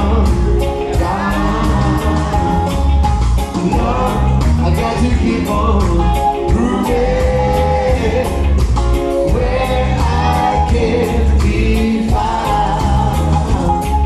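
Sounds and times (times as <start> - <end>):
heavy bass line: 0.0 - 14.0
lead vocal singing: 0.0 - 14.0
live reggae band playing: 0.0 - 14.0.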